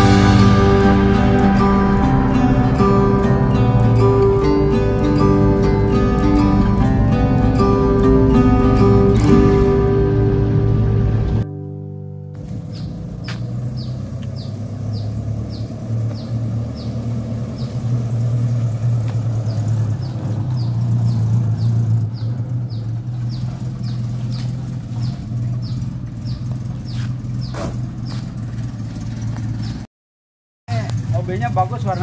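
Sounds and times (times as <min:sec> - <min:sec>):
petrol engine running at low revs: 0:00.0 - 0:11.5, 0:12.4 - 0:29.9, 0:30.8 - 0:32.0.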